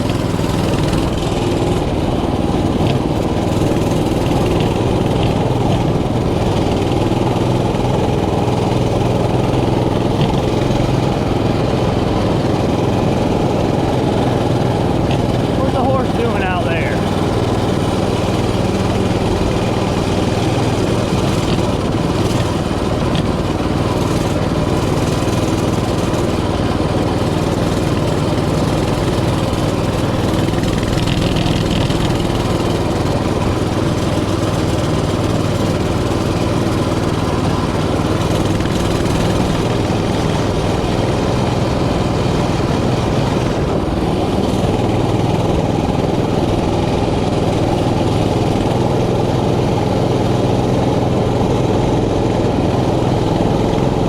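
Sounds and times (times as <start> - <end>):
small motorbike engine running: 0.0 - 54.0.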